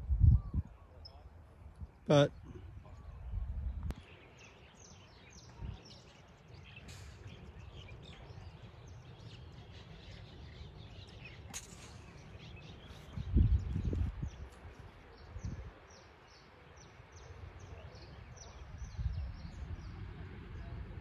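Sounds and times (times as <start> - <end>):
outdoor background noise: 0.0 - 21.0
small birds chirping: 0.2 - 21.0.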